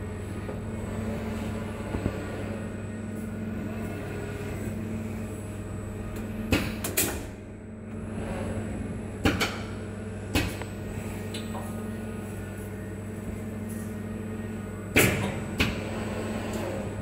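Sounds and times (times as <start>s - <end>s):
sorting machine humming: 0.0s - 17.0s.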